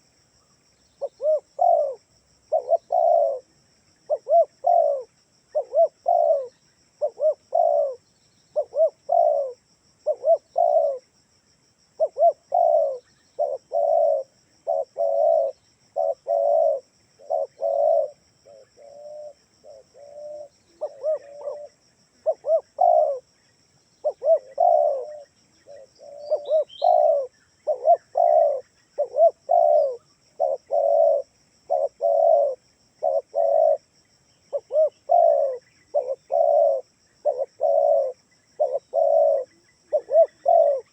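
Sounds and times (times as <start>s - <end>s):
dove cooing: 1.0s - 8.0s, 8.6s - 11.1s, 12.0s - 23.3s, 24.0s - 33.9s, 34.5s - 40.9s.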